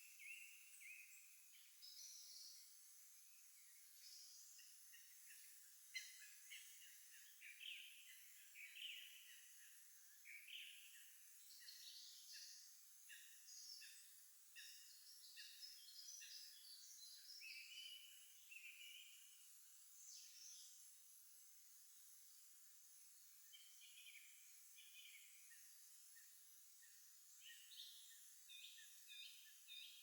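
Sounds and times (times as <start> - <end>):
faint songbird chorus: 0.0 - 30.0.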